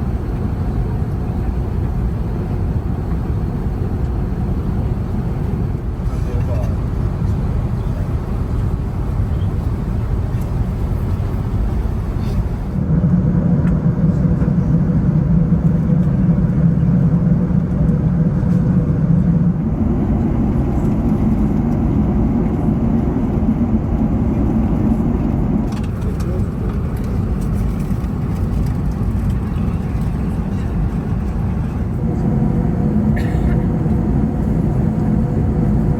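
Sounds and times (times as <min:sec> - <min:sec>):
airliner cabin roar: 0:00.0 - 0:35.9.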